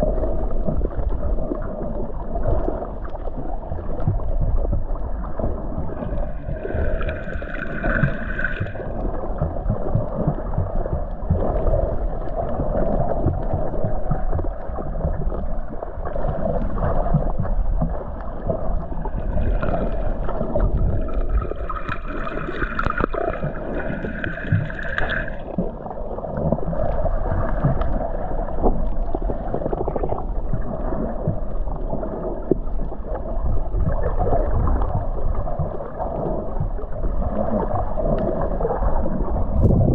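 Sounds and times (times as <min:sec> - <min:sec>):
crackles and clicks: 0:00.0 - 0:39.9
underwater rumble of moving water: 0:00.0 - 0:39.9.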